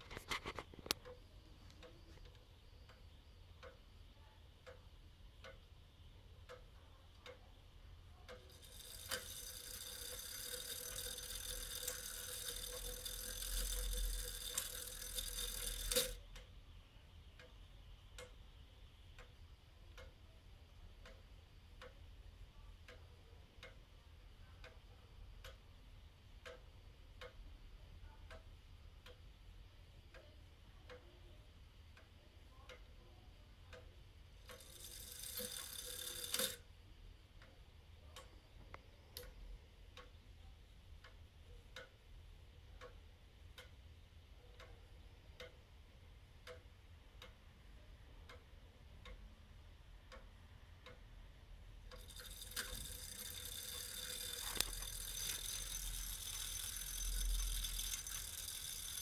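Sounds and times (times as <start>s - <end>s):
clock ticking faintly: 0.0s - 59.0s.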